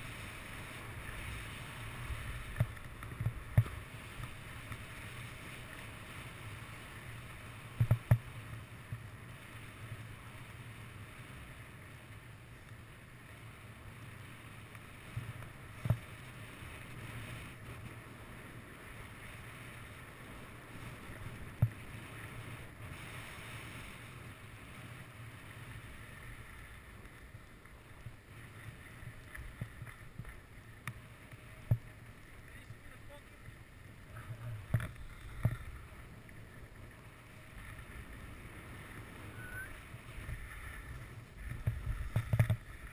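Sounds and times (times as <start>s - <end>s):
skis hissing over snow: 0.0s - 7.8s, 8.4s - 42.9s
wind rumble on microphone: 0.0s - 42.9s.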